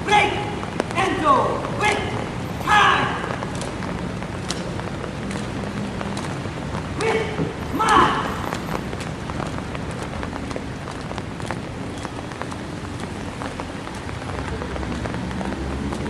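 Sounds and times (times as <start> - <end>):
rain on wet stone paving: 0.0 - 16.0.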